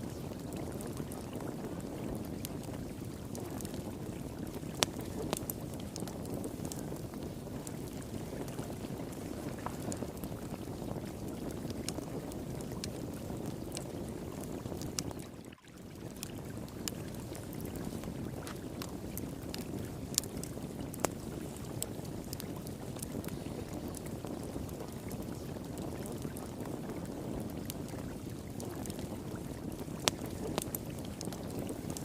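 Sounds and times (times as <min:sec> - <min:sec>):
flowing water: 0:00.0 - 0:32.0
wood fire crackling: 0:00.0 - 0:32.0.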